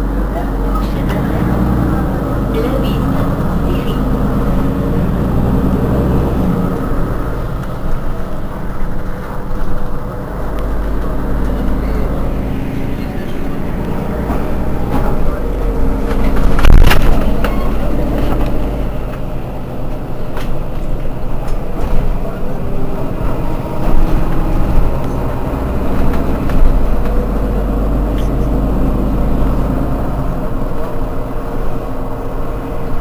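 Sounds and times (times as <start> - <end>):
bus diesel engine idling: 0.0 - 33.0.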